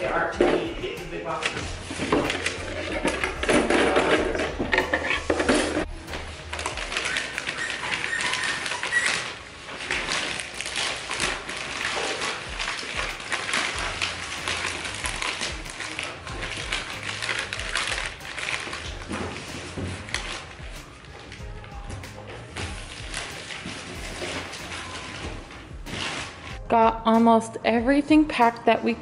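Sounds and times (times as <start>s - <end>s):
packing paper crinkling: 0.0s - 26.6s.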